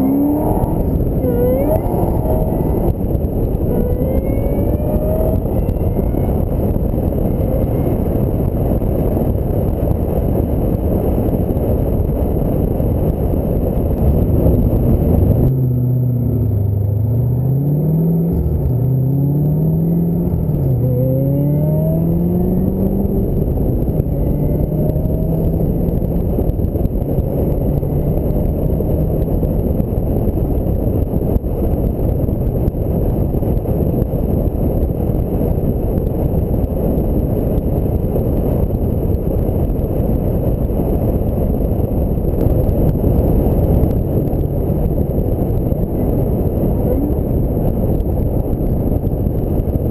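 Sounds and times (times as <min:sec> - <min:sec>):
car engine accelerating: 0:00.0 - 0:49.9
wind and road noise: 0:00.0 - 0:49.9.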